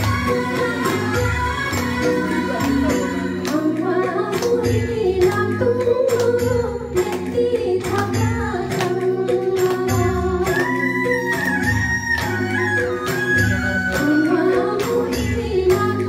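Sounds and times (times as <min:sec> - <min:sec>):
women singing a duet: 0:00.0 - 0:16.0.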